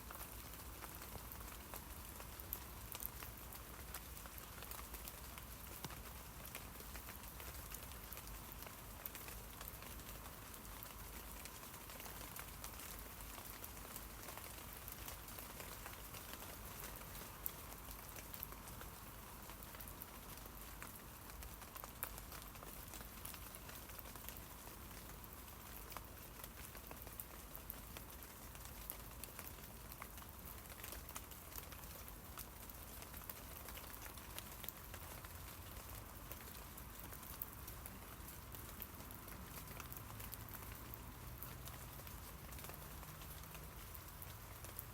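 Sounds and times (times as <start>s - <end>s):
rain falling on leaves: 0.0s - 44.9s.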